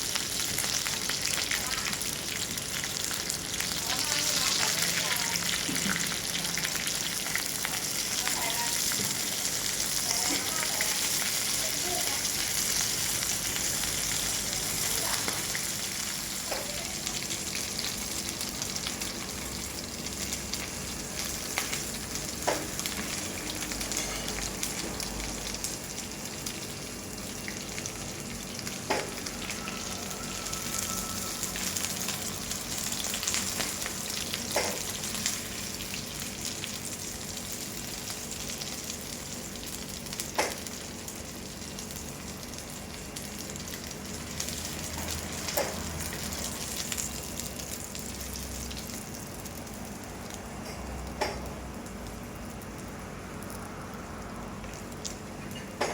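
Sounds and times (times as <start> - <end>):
food sizzling in a hot pan: 0.0 - 55.4.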